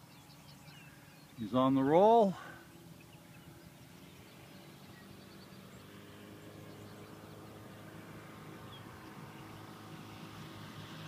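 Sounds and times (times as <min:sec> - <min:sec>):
distant light aircraft engine hum: 0:00.0 - 0:11.0.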